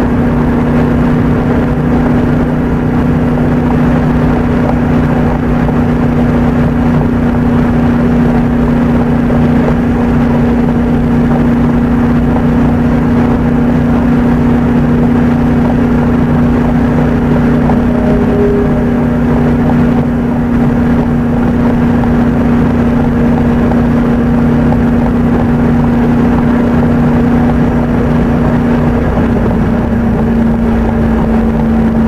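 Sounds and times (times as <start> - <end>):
car engine and tyres inside cabin: 0.0 - 32.0.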